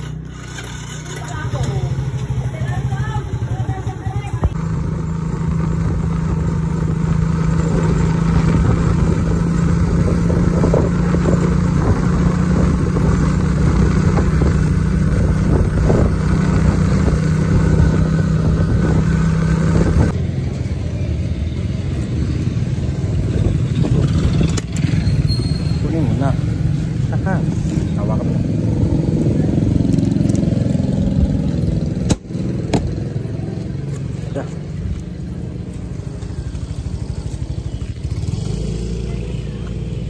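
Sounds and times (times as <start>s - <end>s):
motorcycle engine cruising: 0.0s - 40.0s
road and wind noise: 0.0s - 40.0s.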